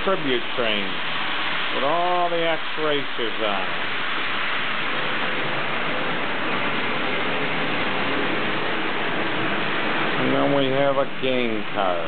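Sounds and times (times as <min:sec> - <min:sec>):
faint whine: 0:00.0 - 0:12.0.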